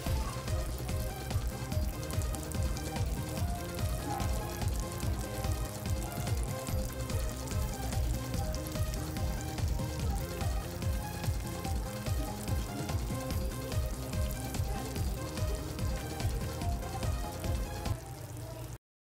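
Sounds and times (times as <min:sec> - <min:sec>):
music with bass beat: 0:00.0 - 0:18.0
chicken frying in hot oil: 0:00.0 - 0:18.8.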